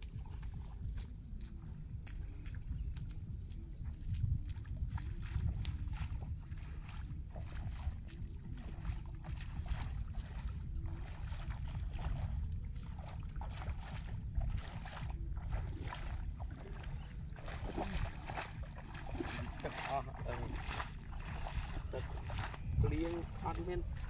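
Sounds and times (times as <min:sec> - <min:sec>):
footsteps splashing through water: 0:00.0 - 0:24.0
low rumble: 0:00.0 - 0:24.0.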